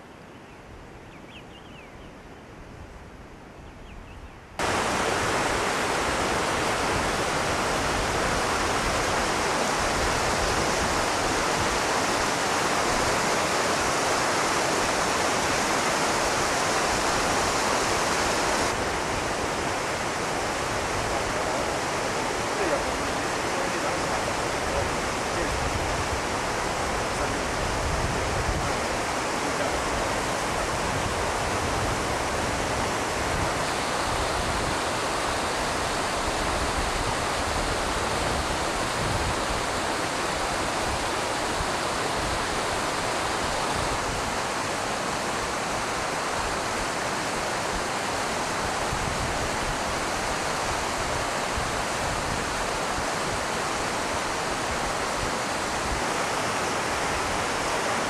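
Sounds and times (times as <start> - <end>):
steady rushing noise: 4.6 - 58.0.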